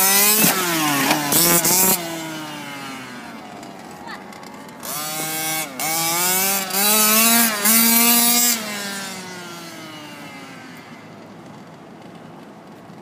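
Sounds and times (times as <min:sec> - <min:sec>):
rc car engine revving: 0:00.0 - 0:11.6.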